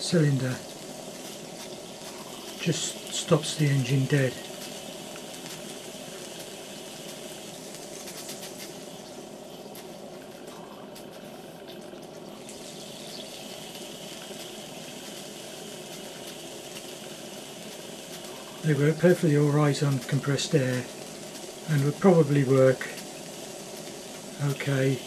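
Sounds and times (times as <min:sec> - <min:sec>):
steam hissing: 0:00.0 - 0:25.0.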